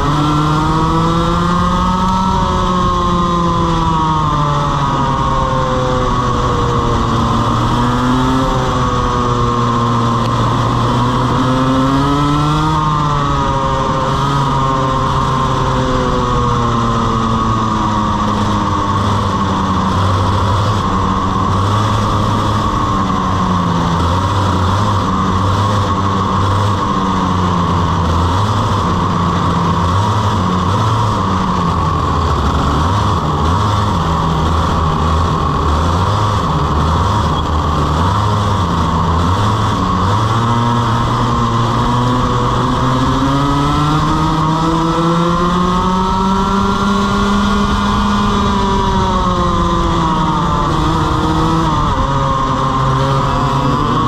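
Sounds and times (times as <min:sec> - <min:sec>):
two-stroke kart engine: 0:00.0 - 0:54.0.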